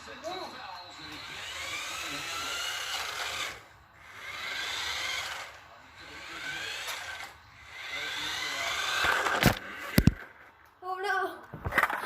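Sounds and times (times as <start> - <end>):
toy car electric motor whining: 0.1 - 10.4.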